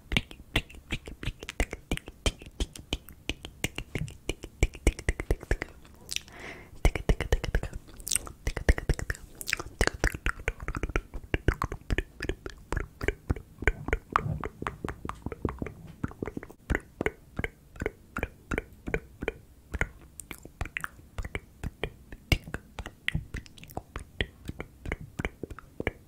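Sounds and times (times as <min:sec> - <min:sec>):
tongue clicks and lip smacks: 0:00.0 - 0:26.0.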